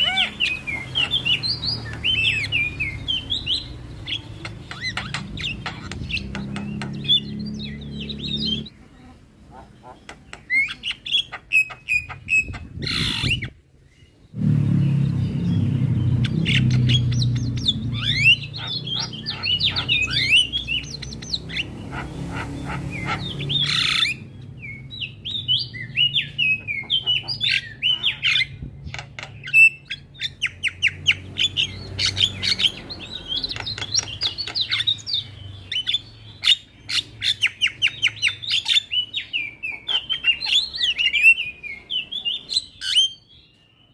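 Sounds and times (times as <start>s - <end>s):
bird chattering song: 0.0s - 43.9s.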